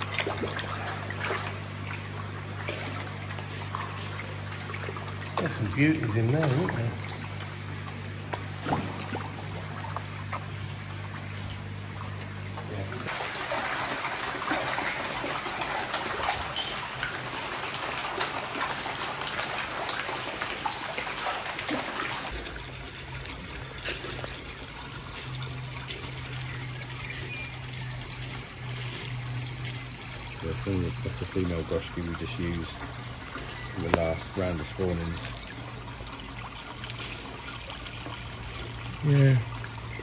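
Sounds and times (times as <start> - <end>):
low steady hum: 0.0 - 40.0
water trickling and splashing: 0.0 - 40.0.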